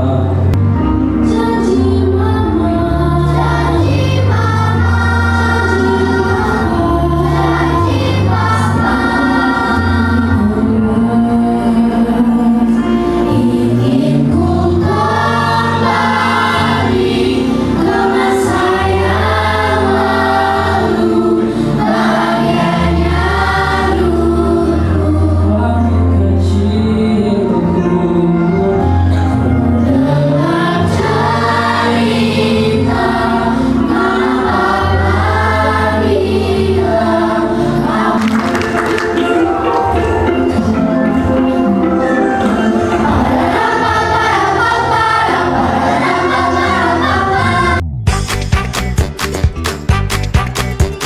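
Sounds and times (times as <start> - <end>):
children's choir singing: 0.0 - 47.8
low held accompaniment notes: 0.0 - 48.3.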